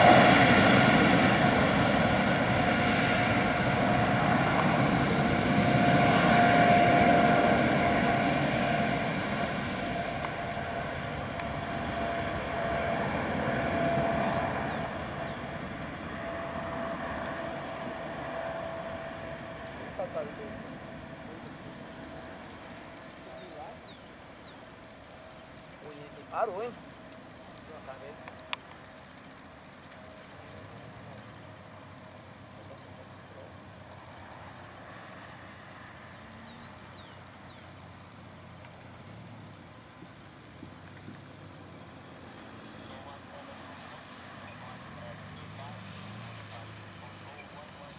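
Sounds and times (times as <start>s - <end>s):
jet engines rumbling with whine: 0.0s - 47.9s.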